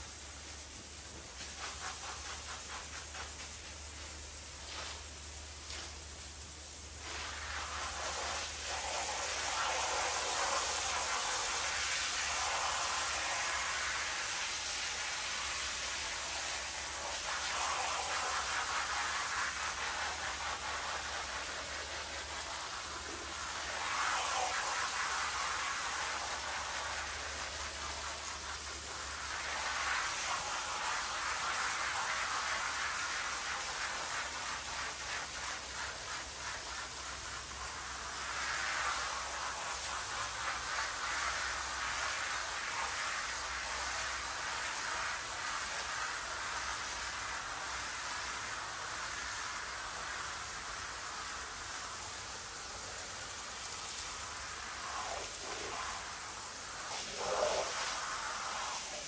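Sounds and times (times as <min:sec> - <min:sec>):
pressure washer spraying water: 0:00.0 - 0:59.0.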